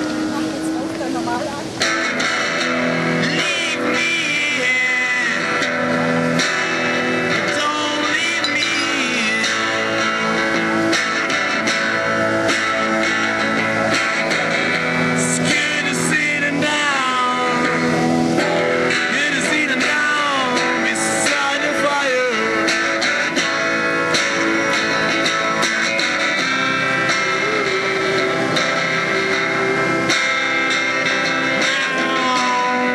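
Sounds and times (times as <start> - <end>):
music playing: 0.0 - 32.9.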